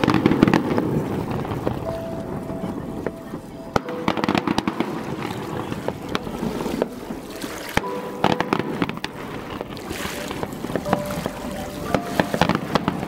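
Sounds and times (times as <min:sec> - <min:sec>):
fireworks bangs and crackles: 0:00.0 - 0:13.0
steady noisy background: 0:00.0 - 0:13.0.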